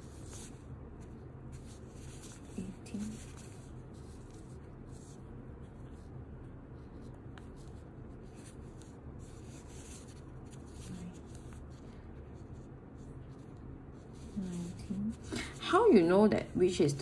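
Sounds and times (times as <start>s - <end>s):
yarn rustling through crochet stitches: 0.0s - 16.3s.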